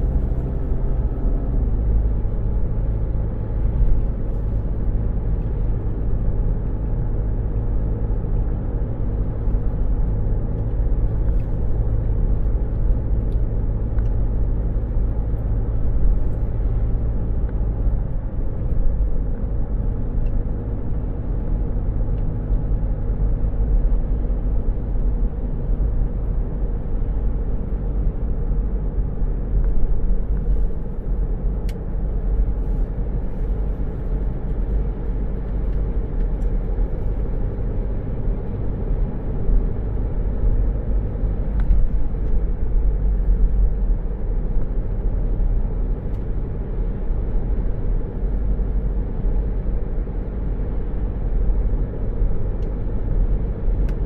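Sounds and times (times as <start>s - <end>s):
car engine rumble: 0.0s - 54.0s
tyres on the road: 0.0s - 54.0s.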